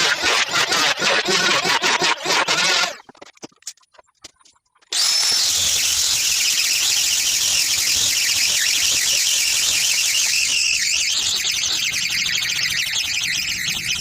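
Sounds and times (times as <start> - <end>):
power tool whining: 0.0 - 3.0, 4.9 - 14.0.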